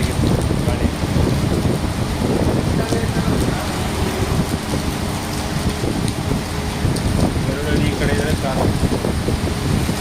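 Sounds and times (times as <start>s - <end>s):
deep rumble: 0.0s - 10.0s
heavy rain falling: 0.0s - 10.0s.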